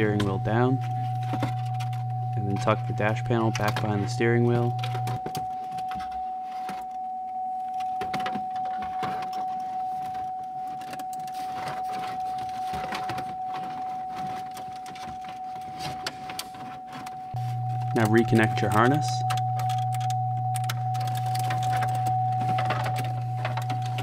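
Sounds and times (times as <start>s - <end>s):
steady high tone: 0.0s - 24.0s.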